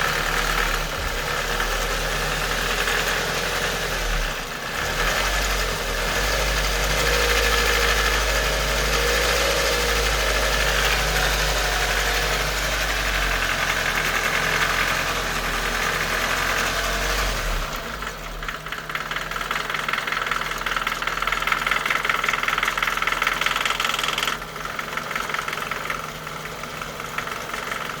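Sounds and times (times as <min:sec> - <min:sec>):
car engine idling: 0:00.0 - 0:28.0
rapid light engine ticking: 0:00.0 - 0:28.0.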